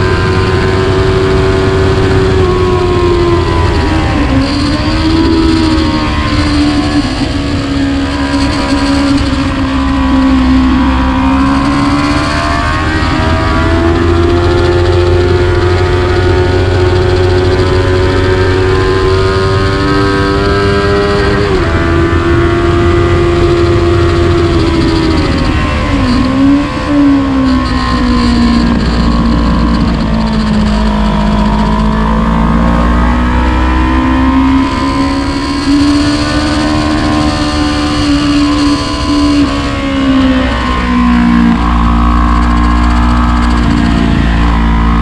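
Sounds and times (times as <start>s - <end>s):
motorcycle engine running hard: 0.0s - 45.0s
wind rushing noise: 0.0s - 45.0s.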